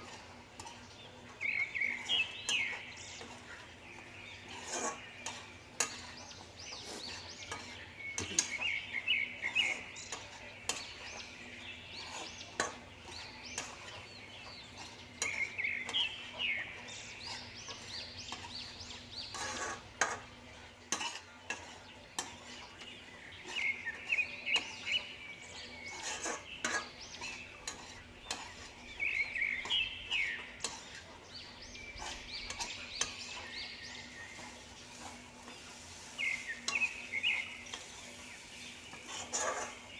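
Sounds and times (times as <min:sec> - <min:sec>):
birds chirping: 0:00.0 - 0:39.9
faint sizzle: 0:00.0 - 0:39.9
metal spatula scraping pan: 0:00.0 - 0:39.9.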